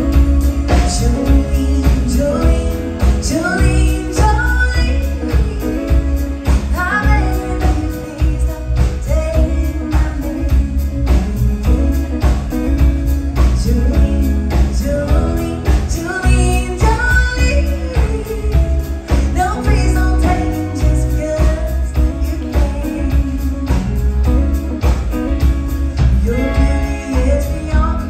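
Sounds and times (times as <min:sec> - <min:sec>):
acoustic and electric guitars: 0:00.0 - 0:28.0
steady drum beat: 0:00.0 - 0:28.0
woman singing lead vocal: 0:00.0 - 0:28.0.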